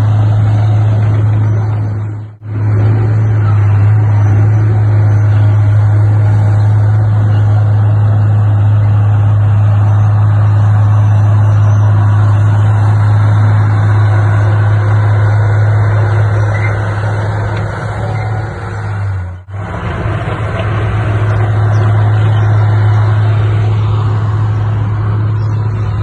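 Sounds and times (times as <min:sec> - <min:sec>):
heavy diesel engine drone: 0:00.0 - 0:26.0.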